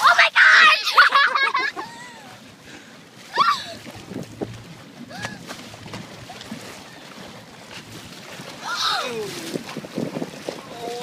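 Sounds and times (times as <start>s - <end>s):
water splashing around a boat: 0.0s - 11.0s.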